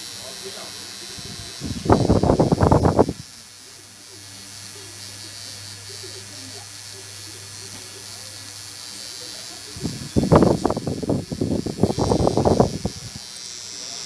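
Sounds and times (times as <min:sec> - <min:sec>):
tattoo pen buzzing: 0:00.0 - 0:14.0.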